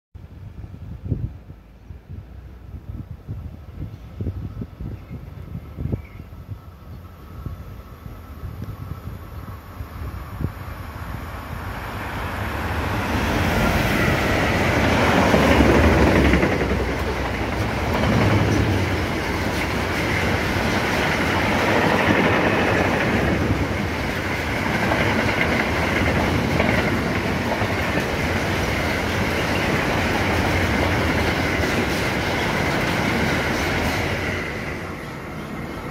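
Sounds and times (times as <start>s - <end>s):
train passing: 1.6s - 35.9s.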